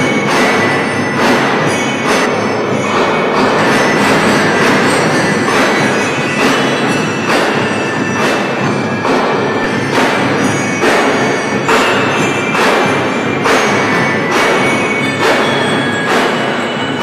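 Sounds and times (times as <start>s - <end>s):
bell lyres ringing: 0.0s - 17.0s
marching drums: 0.0s - 17.0s.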